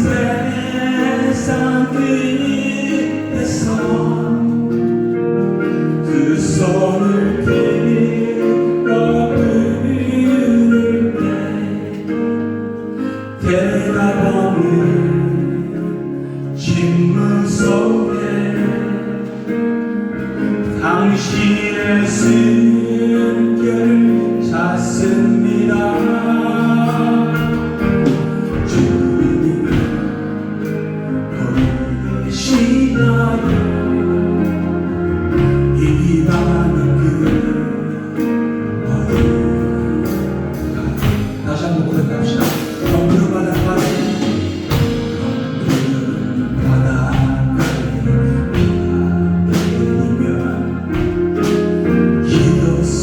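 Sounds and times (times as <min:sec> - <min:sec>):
worship song with singing: 0:00.0 - 0:53.0.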